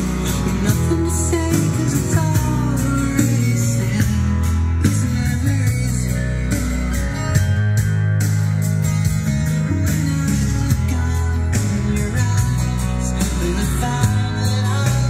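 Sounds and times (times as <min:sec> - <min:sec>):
guitar-led rock music from loudspeakers: 0:00.0 - 0:15.0.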